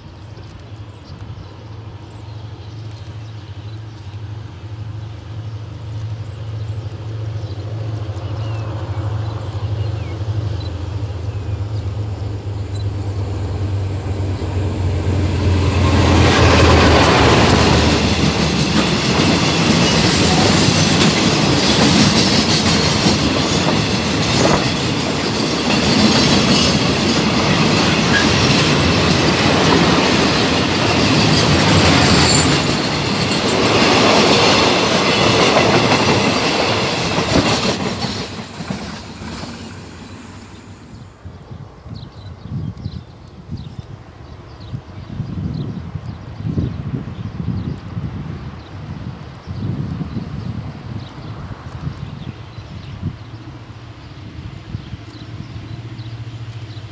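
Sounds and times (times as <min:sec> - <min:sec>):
diesel locomotive engine drone: 0:00.0 - 0:56.9
wagons rumbling on rails: 0:00.0 - 0:56.9.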